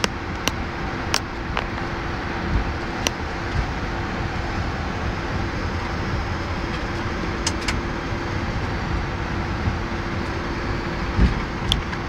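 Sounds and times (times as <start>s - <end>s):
steady cockpit rushing: 0.0s - 12.0s.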